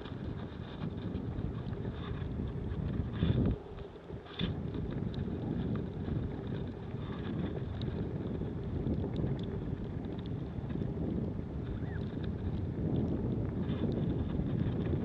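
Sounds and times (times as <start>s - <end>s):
faint ticks: 0.0s - 15.0s
wind buffeting microphone: 0.0s - 15.0s.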